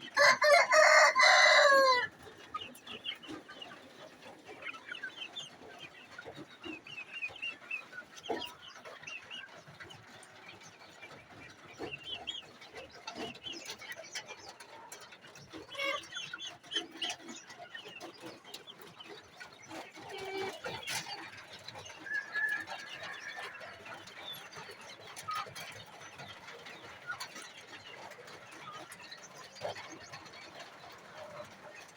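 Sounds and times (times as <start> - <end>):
chickens chirping and clucking: 0.0 - 31.9.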